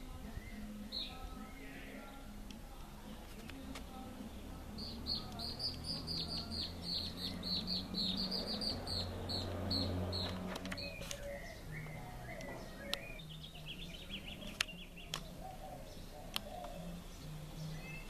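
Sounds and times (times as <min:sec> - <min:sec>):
bird singing high chirps: 0:00.0 - 0:02.4, 0:03.3 - 0:18.0.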